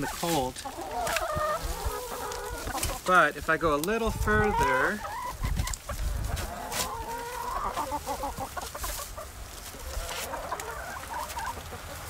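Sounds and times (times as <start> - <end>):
hay fork scraping compost: 0.0 - 12.0
hens clucking: 0.0 - 12.0.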